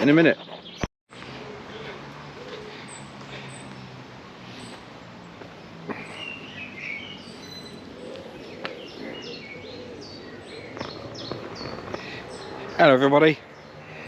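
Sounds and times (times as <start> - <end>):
birds chirping: 0.0 - 14.0
outdoor background noise: 0.0 - 14.0.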